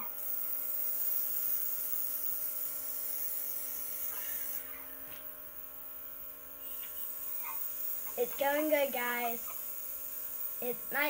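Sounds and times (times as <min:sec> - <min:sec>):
airbrush air hissing: 0:00.0 - 0:11.0
compressor humming: 0:00.0 - 0:11.0.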